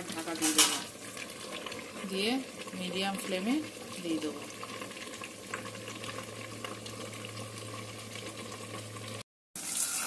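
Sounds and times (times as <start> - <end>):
bright sizzle: 0.0 - 10.0
soft cooking hiss with crackles: 0.0 - 10.0.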